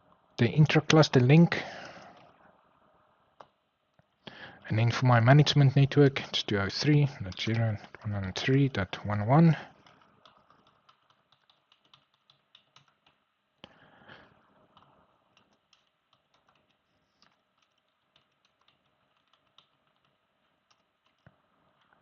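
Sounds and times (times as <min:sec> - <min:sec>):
faint keyboard typing: 0:00.0 - 0:02.6, 0:03.2 - 0:22.0.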